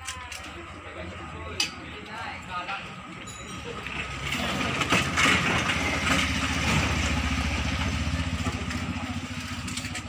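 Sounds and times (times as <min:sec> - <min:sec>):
scooter engine idling: 0:00.6 - 0:10.0.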